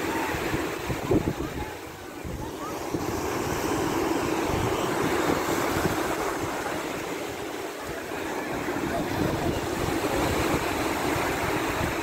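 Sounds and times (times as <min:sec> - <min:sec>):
waves washing on pebble beach: 0:00.0 - 0:12.0
wind buffeting microphone: 0:00.0 - 0:12.0.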